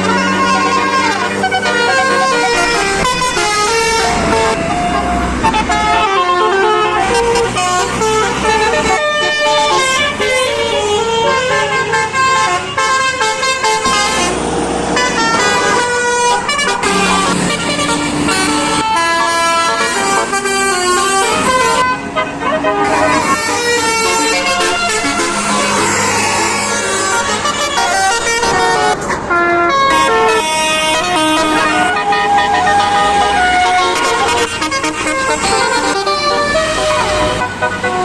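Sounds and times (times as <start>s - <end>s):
bus horns playing melodies: 0.0s - 38.0s.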